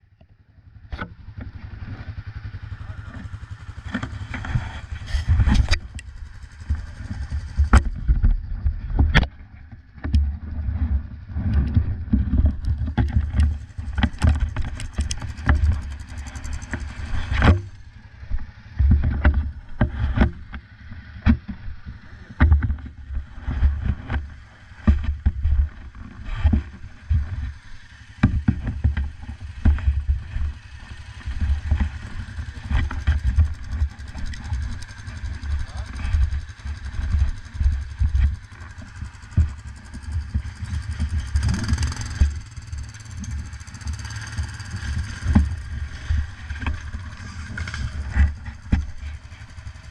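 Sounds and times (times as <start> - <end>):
quad bike engine running: 0.0 - 49.9.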